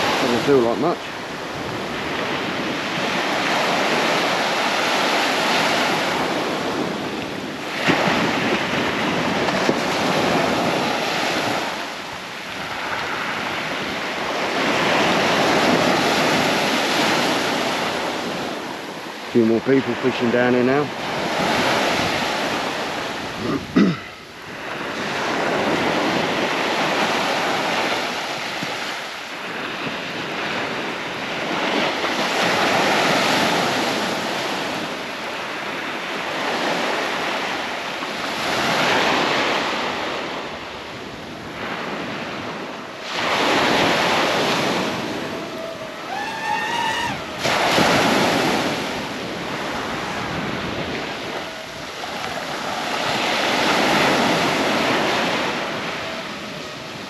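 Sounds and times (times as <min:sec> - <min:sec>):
surf breaking on sandy beach: 0:00.0 - 0:57.0
wind on microphone: 0:00.0 - 0:57.0.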